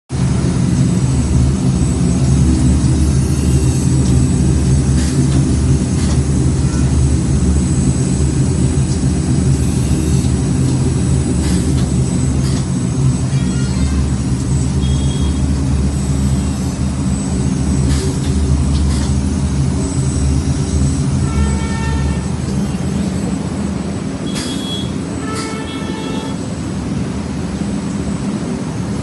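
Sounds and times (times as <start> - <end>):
high-pitched ringing tones: 1.0 - 26.5.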